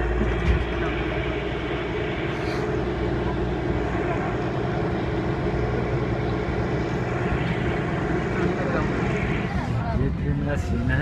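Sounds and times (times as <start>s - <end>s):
road and wind noise: 0.0s - 11.0s
vehicle engine hum: 0.0s - 11.0s.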